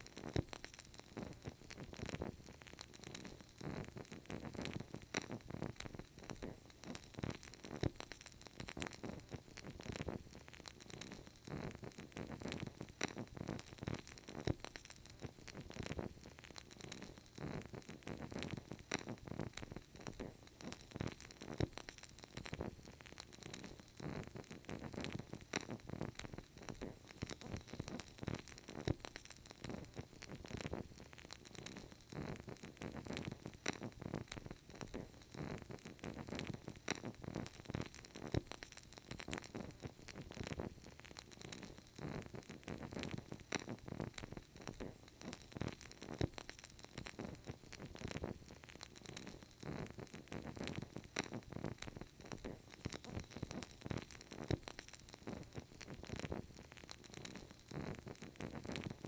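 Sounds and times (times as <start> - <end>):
candle crackling: 0.0 - 59.0
soft steady hiss: 0.0 - 59.0.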